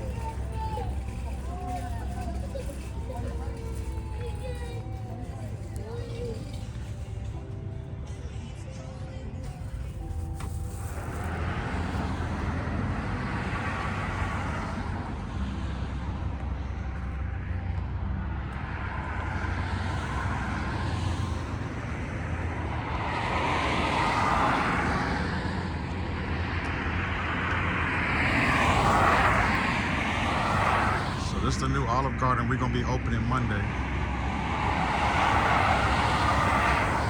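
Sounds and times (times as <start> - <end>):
engine hum: 0.0 - 37.0
tyre and road rush: 0.0 - 37.0.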